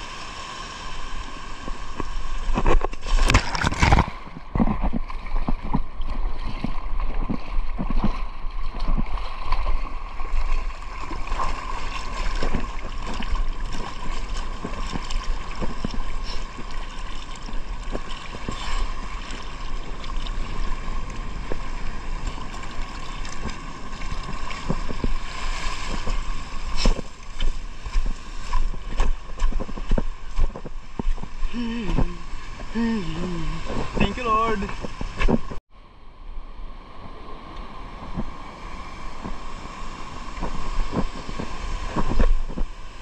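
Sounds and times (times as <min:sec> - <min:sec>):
water sloshing and gurgling: 0:00.0 - 0:35.6, 0:36.4 - 0:43.0
wind rumbling on the microphone: 0:00.8 - 0:43.0.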